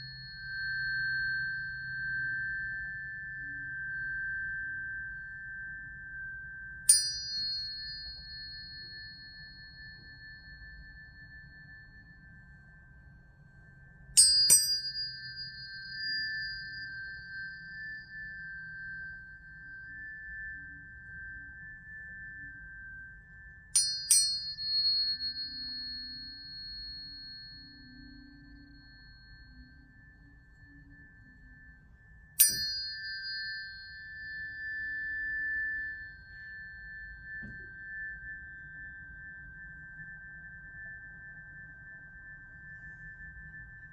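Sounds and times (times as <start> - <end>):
low sustained tone: 0.0 - 43.9
tuning fork strike ringing: 0.0 - 43.9.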